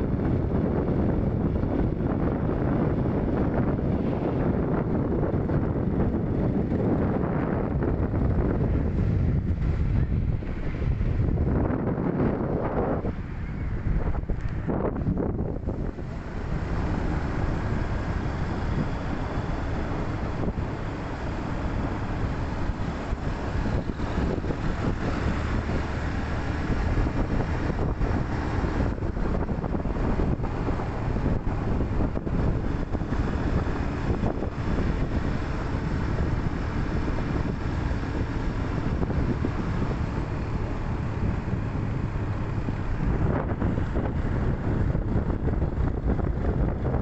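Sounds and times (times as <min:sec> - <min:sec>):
low engine and tyre sound: 0:00.0 - 0:47.0
road and wind noise: 0:00.0 - 0:47.0.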